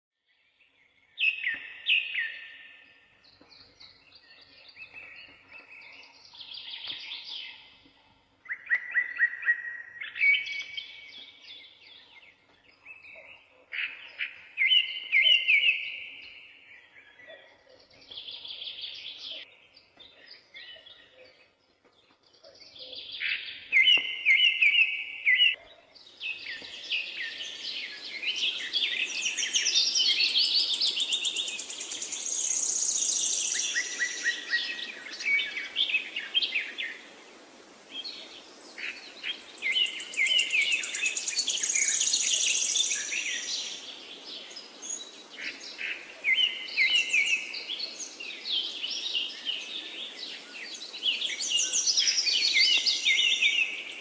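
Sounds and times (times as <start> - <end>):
bird chorus: 0.2 - 54.0
bird singing trilling phrases: 0.3 - 37.1, 38.0 - 54.0.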